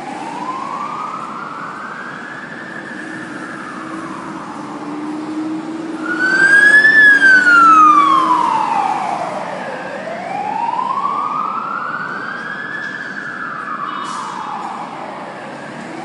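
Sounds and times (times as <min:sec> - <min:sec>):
fire truck siren wailing: 0:00.0 - 0:16.0.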